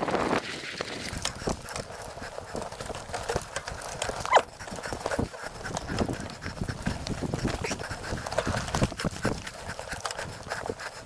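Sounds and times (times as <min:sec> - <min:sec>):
mountain bike rattling on dirt trail: 0:00.0 - 0:11.0.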